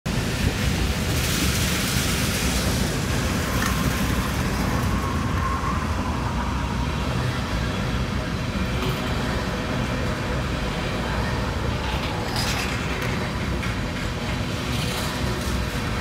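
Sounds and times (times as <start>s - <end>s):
train wheels rumbling on rail: 0.1s - 16.0s.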